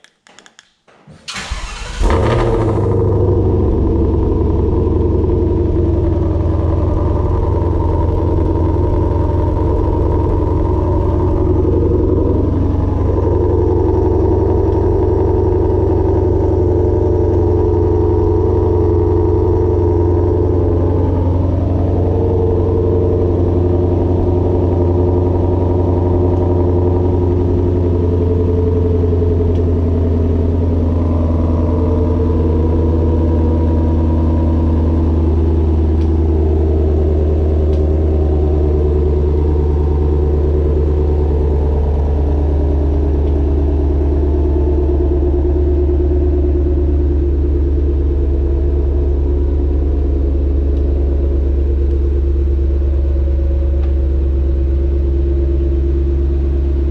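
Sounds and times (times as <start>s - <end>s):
car engine idling: 1.3s - 56.9s.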